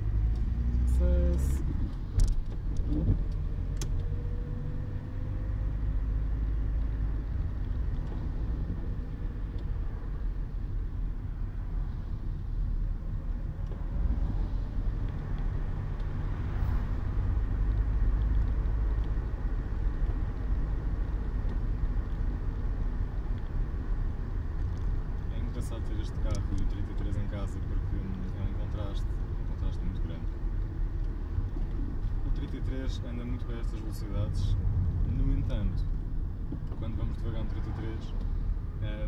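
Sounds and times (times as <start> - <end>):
car engine low rumble: 0.0 - 39.0.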